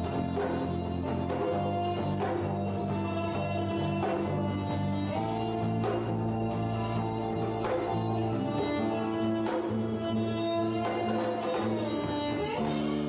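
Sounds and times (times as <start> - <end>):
bass guitar line: 0.0 - 13.0
bowed violin: 0.0 - 13.0.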